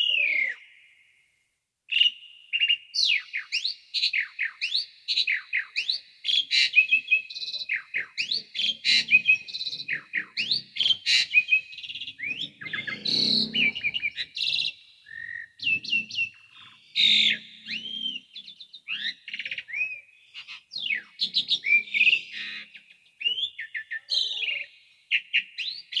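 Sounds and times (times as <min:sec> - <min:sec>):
starling singing varied whistles: 0:01.9 - 0:26.0.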